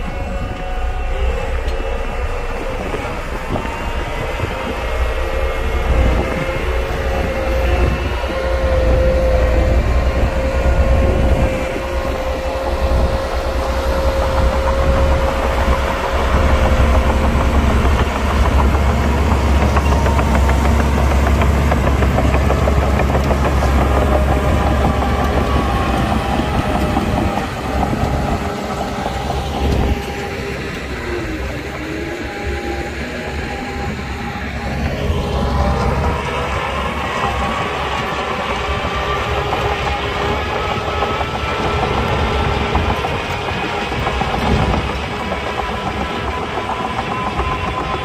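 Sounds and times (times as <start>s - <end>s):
diesel engine rumble: 0.0s - 48.0s
high-pitched machinery whine: 0.0s - 48.0s.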